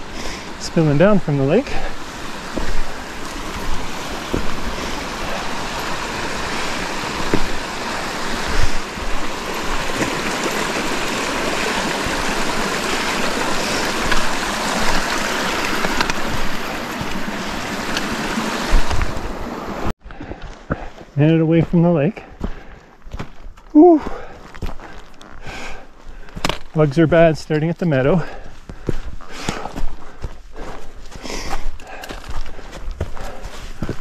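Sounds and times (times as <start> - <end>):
creek running over rocks: 0.0 - 19.9, 23.8 - 34.0.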